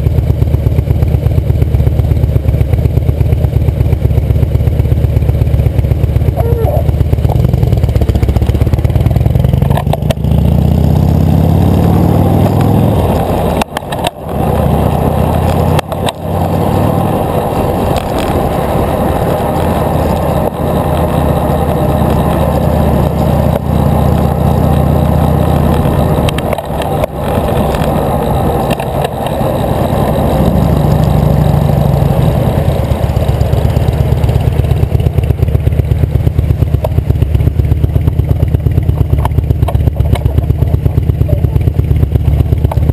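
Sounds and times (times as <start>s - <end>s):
road noise: 0.0s - 42.9s.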